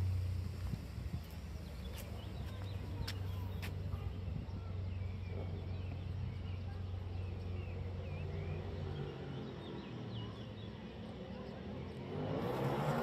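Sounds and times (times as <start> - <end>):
birds chirping: 0.0 - 13.0
low traffic hum: 0.0 - 13.0.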